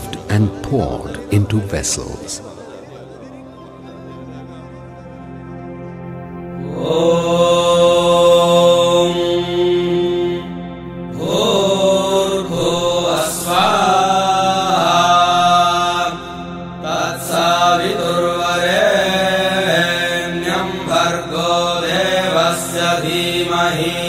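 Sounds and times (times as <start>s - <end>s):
person chanting: 0.0s - 5.5s, 6.6s - 24.0s
steady drone: 0.0s - 24.0s.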